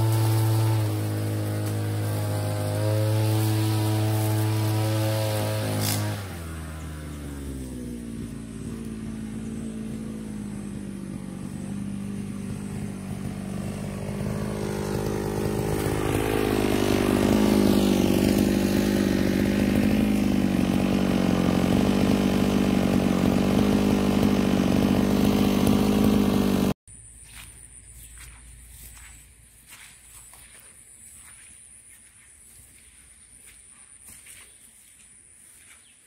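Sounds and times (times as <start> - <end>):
brush cutter engine running: 0.0 - 30.6.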